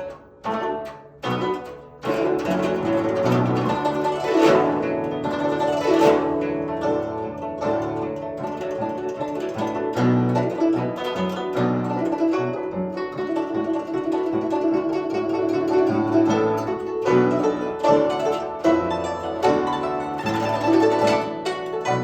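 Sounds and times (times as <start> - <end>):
plucked string music: 0.0 - 22.0.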